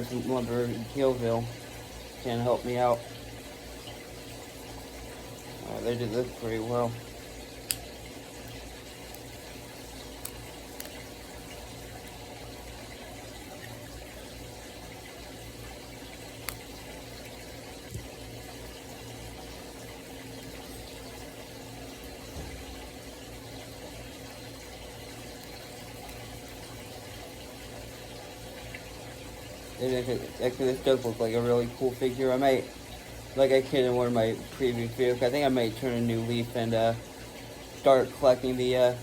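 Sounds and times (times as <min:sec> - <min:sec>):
background hum and hiss: 0:00.0 - 0:39.0.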